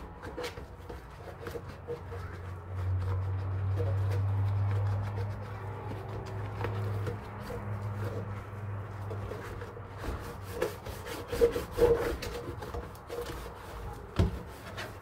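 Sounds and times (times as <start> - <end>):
sponge scrubbing plastic tray: 0.0 - 15.0.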